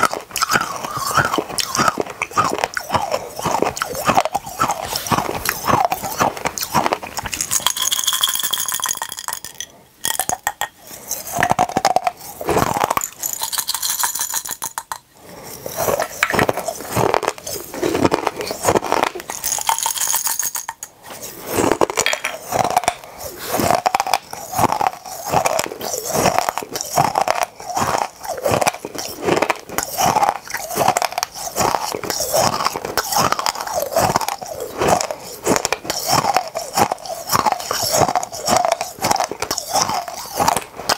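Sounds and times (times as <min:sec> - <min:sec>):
crunching hard candies: 0:00.0 - 0:40.9.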